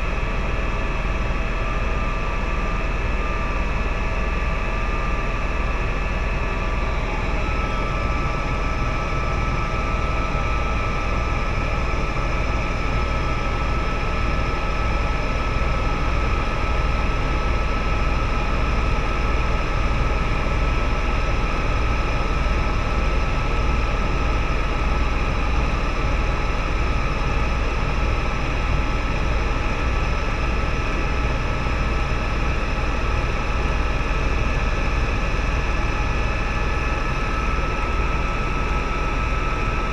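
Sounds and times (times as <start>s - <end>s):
helicopter rotor and engine rumble: 0.0s - 39.9s.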